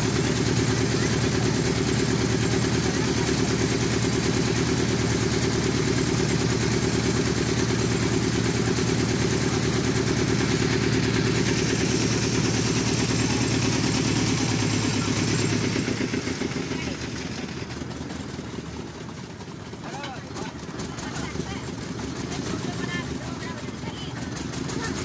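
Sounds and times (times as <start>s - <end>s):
ferry engine droning: 0.0s - 25.0s.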